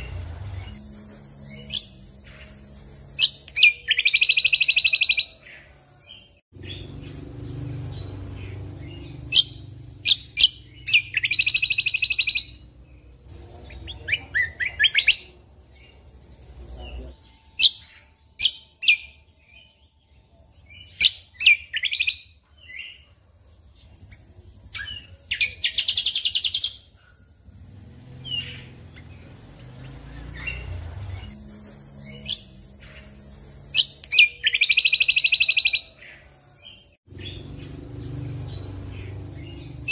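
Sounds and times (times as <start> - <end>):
bird chirps and buzzy trills: 0.0 - 39.9.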